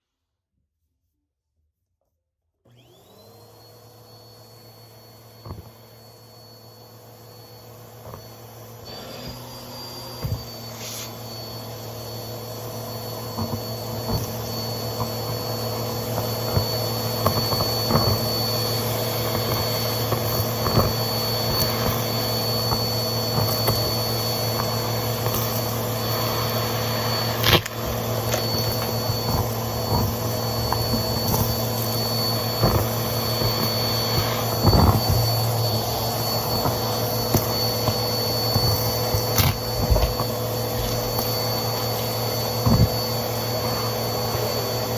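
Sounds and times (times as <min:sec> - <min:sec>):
vacuum cleaner motor whine: 0:02.6 - 0:44.9.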